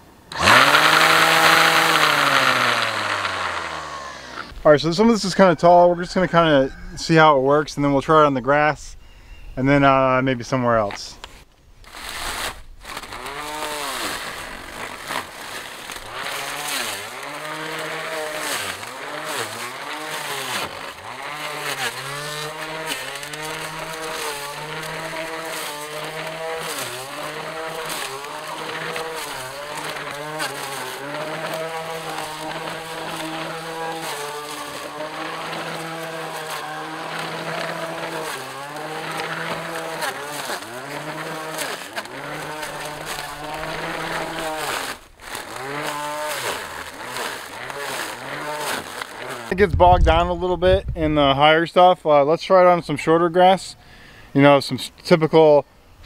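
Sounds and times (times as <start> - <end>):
string trimmer motor whining: 0.3 - 7.0, 11.2 - 51.4.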